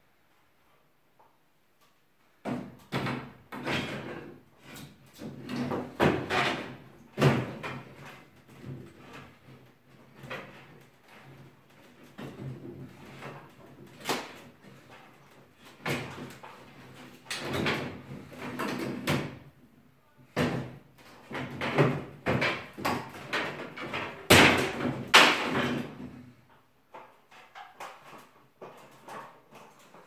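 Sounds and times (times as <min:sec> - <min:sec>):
wooden knocks and cracks: 0:02.4 - 0:19.6, 0:20.3 - 0:26.3, 0:26.9 - 0:30.0.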